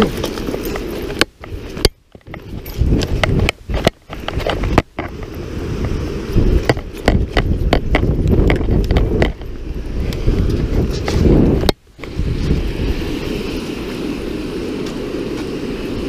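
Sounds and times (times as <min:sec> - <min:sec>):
footsteps: 0:00.0 - 0:16.0
wind buffeting microphone: 0:00.0 - 0:16.0.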